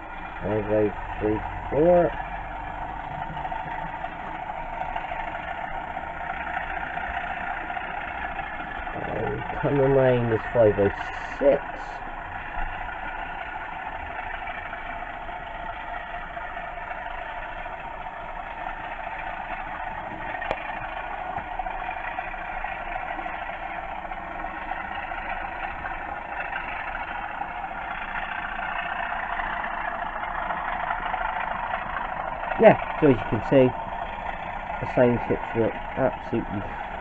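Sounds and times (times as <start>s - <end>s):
diesel engine sound from small speaker: 0.0s - 37.0s.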